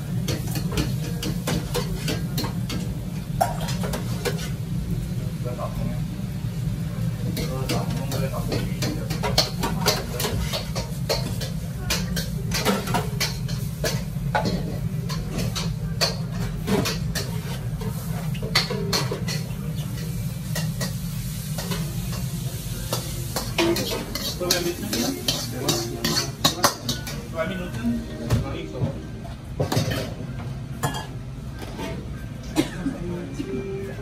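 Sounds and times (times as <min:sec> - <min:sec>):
utensils clanking on pans: 0:00.0 - 0:05.9, 0:06.9 - 0:34.0
food sizzling: 0:00.0 - 0:28.2.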